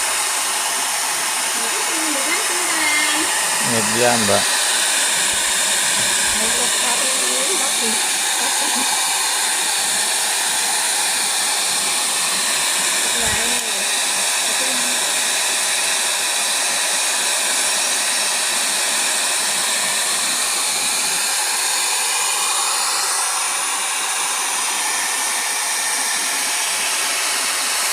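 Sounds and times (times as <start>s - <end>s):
hair dryer blowing: 0.0s - 27.9s.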